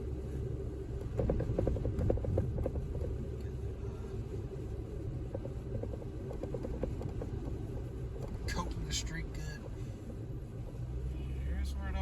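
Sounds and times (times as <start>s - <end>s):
car driving on snowy street: 0.0s - 12.0s.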